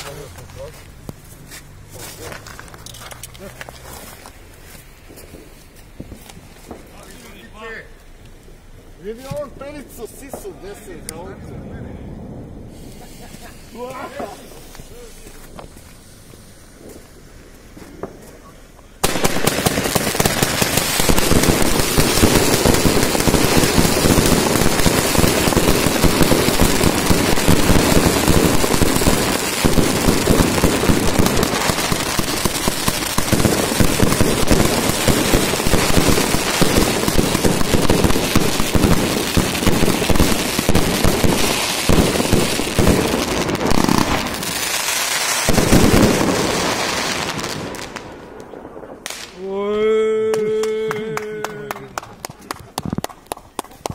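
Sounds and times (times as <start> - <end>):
firework fountain crackling: 0.0 - 53.9.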